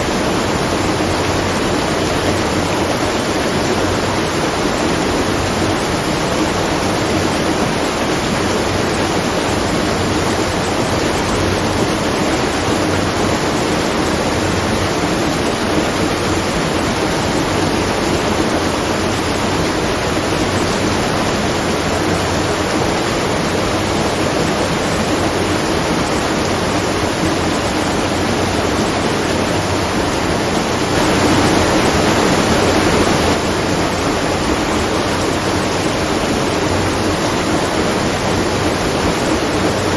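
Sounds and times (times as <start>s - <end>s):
water pouring at a watermill: 0.0s - 39.9s.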